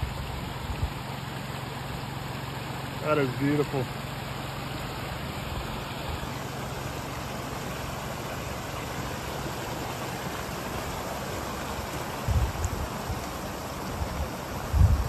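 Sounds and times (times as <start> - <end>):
water gushing from pipe: 0.0 - 15.0.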